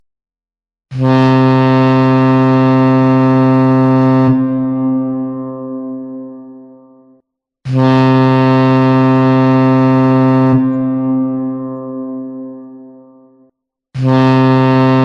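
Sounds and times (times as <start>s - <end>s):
ship's horn blast: 0.9s - 15.0s.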